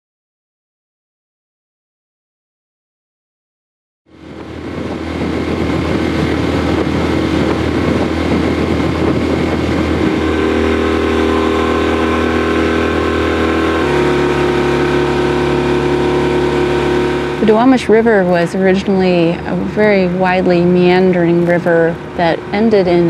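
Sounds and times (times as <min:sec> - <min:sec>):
motorboat engine running: 0:04.1 - 0:23.0.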